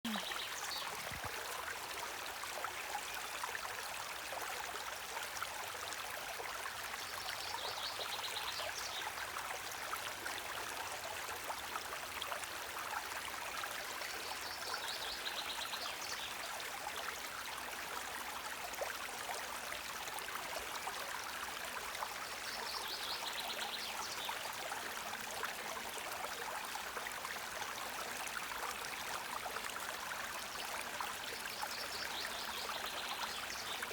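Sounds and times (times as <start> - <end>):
stream water trickling: 0.0 - 33.9.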